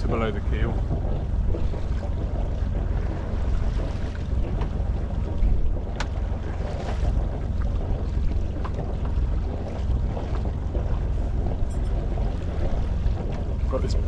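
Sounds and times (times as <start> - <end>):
boat engine running: 0.0 - 14.0
wind buffeting microphone: 0.0 - 14.0.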